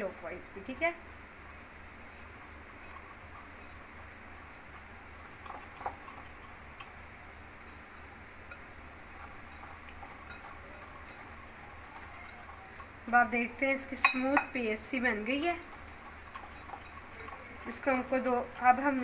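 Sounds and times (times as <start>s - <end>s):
whisk swishing in bowl: 0.0s - 19.0s
whisk wires clicking on bowl: 0.0s - 19.0s.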